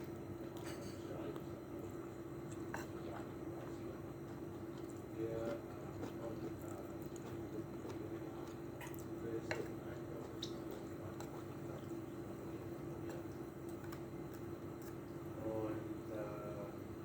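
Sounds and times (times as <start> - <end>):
wet chewing of noodles: 0.0 - 15.4
steady low hum: 0.0 - 17.0.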